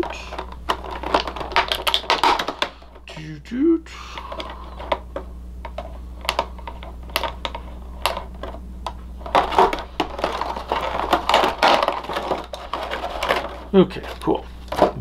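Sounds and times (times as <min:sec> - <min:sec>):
hard plastic clicking and rattling: 0:00.0 - 0:03.1, 0:04.2 - 0:15.0
low hum: 0:00.0 - 0:15.0.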